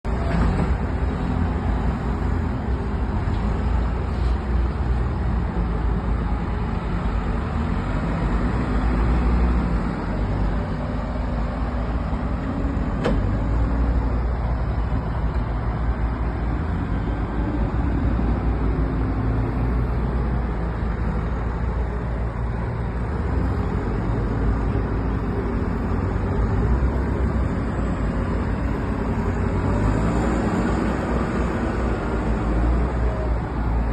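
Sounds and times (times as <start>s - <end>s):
heavy engines rumbling: 0.0s - 33.9s.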